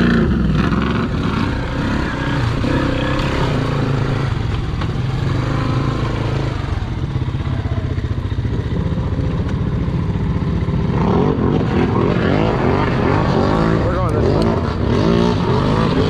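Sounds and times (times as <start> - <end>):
quad engine running low: 0.0 - 16.0.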